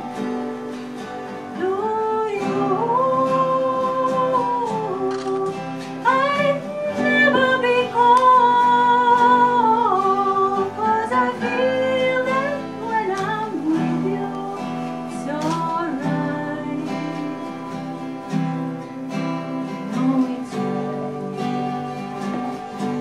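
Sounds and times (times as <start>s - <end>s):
acoustic guitar: 0.0s - 23.0s
woman singing slow song: 1.3s - 23.0s.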